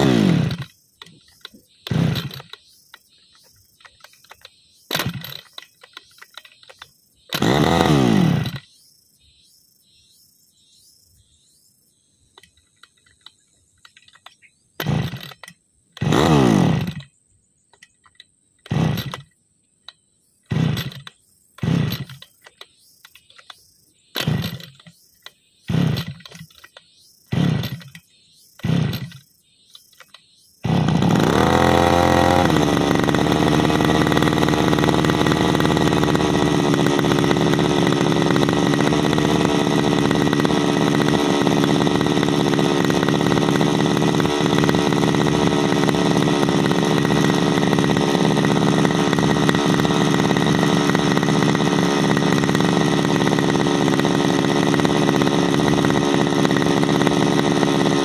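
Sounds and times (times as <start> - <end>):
pull-start cranking: 0.0 - 8.7, 12.4 - 17.1, 17.8 - 19.3, 20.5 - 58.0
brushcutter engine running: 0.0 - 8.8, 14.8 - 17.2, 18.6 - 19.3, 20.4 - 58.0.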